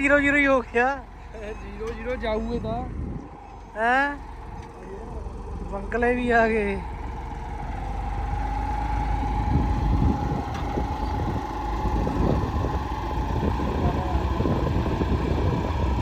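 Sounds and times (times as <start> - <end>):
engine knocks: 0.0 - 16.0
engine whine: 0.0 - 16.0
tractor diesel engine rumbling: 0.0 - 16.0.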